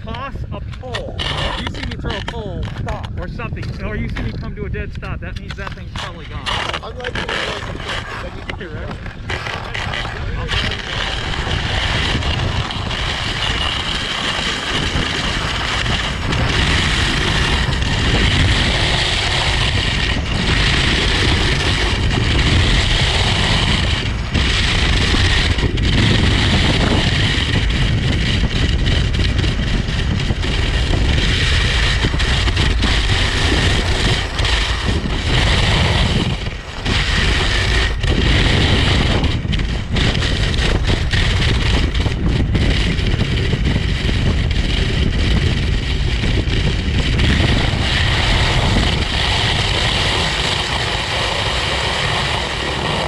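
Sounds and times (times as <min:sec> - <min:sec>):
ski scraping over snow: 0:00.0 - 0:53.0.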